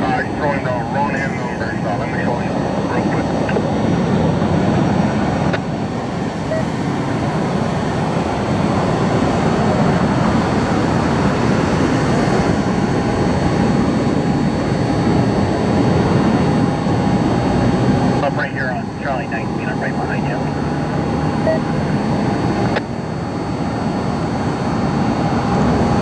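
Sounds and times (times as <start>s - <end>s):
faint steady whine: 0.0s - 26.0s
jet engines rumbling: 0.0s - 26.0s.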